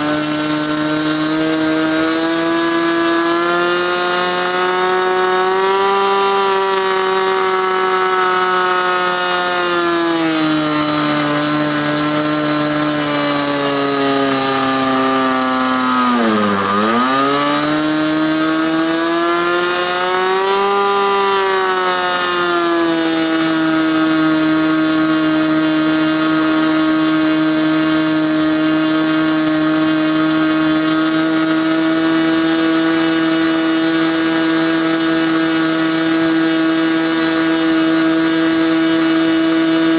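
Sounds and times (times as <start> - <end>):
model airplane engine buzzing: 0.0 - 39.9.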